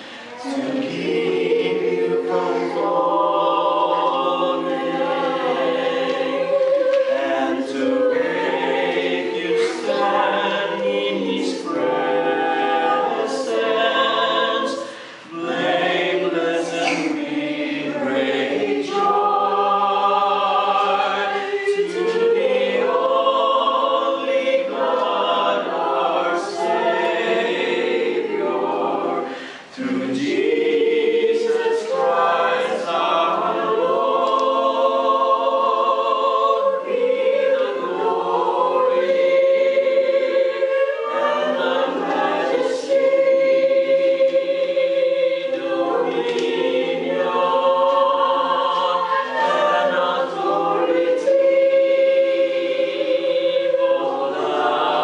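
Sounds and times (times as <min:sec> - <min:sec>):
group singing a hymn: 0:00.0 - 0:55.0.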